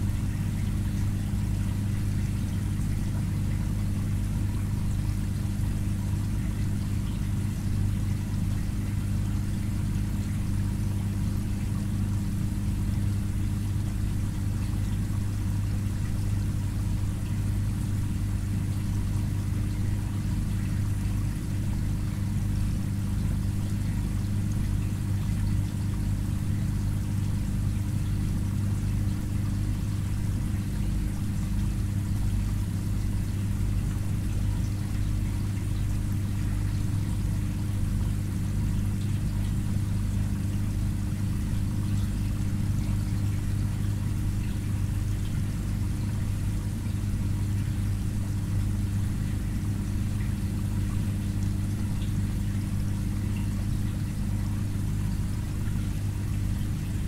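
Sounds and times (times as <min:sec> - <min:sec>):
aquarium filter pump humming: 0:00.0 - 0:57.0.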